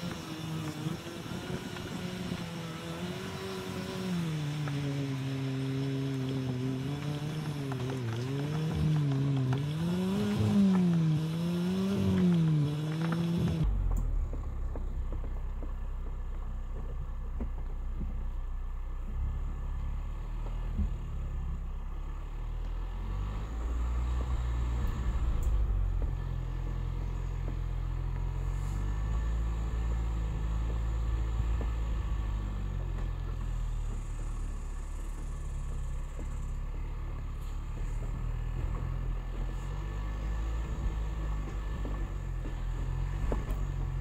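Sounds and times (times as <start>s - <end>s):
engine rumbling at low revs: 0.0s - 44.0s.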